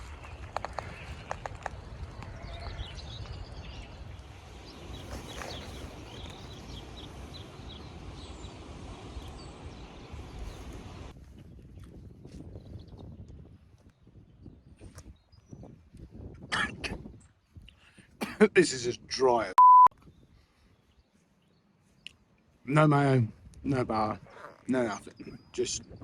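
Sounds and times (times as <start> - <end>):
low wind rumble on microphone: 0.0 - 18.2, 20.0 - 21.1, 23.2 - 24.4, 25.2 - 26.0
small birds chirping: 0.0 - 18.2, 20.0 - 26.0.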